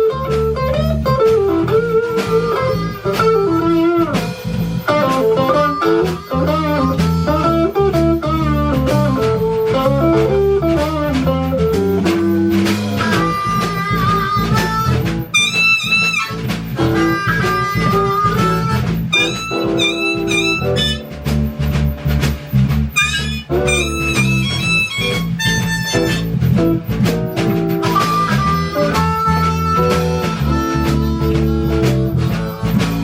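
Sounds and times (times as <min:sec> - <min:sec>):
blues band playing live: 0:00.0 - 0:33.0
guitar lead line: 0:00.0 - 0:33.0.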